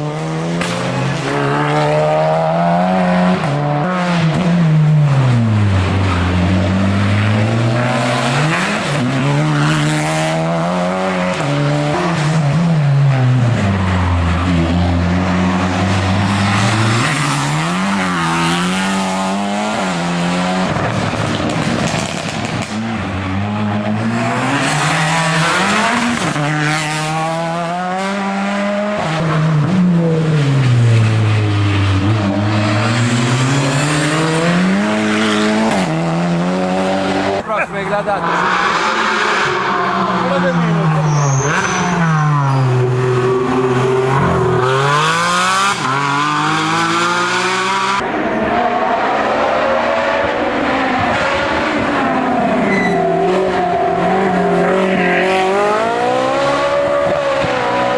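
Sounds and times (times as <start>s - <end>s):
race car engine revving: 0.0s - 57.9s.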